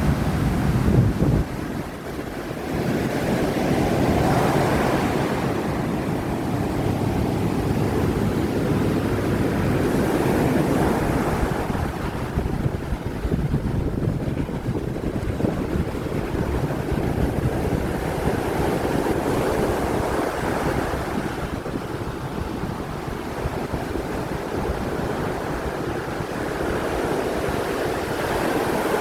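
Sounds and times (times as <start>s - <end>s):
surf breaking on beach: 0.0s - 29.0s
wind buffeting microphone: 0.0s - 29.0s.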